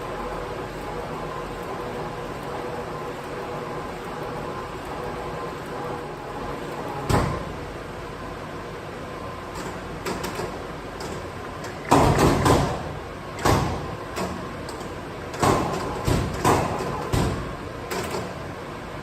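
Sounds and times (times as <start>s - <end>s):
press motor and flywheel hum: 0.0s - 19.0s.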